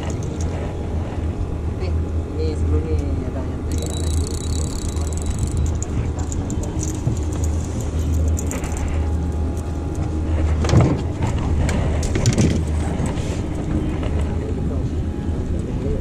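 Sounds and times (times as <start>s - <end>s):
boat motor humming: 0.0s - 16.0s.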